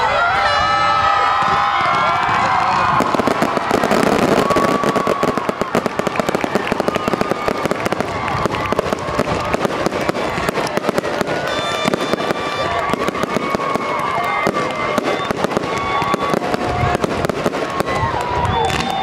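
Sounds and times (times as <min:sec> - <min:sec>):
crowd cheering and shouting: 0:00.0 - 0:19.0
fireworks crackling and popping: 0:00.4 - 0:19.0.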